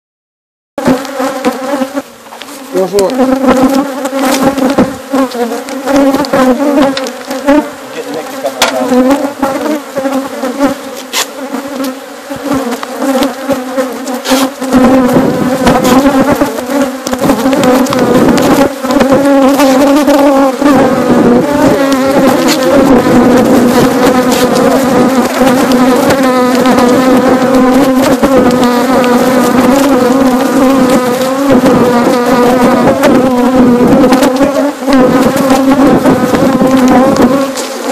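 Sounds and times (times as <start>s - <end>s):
bees buzzing: 0.8s - 37.9s.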